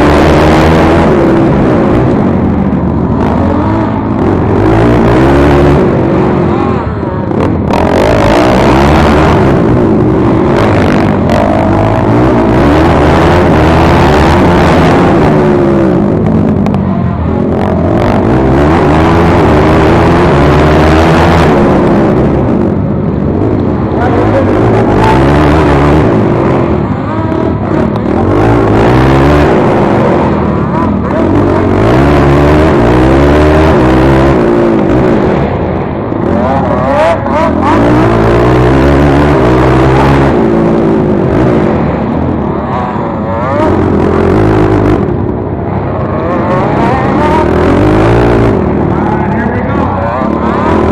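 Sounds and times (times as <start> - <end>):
quad engine racing: 0.0 - 50.9.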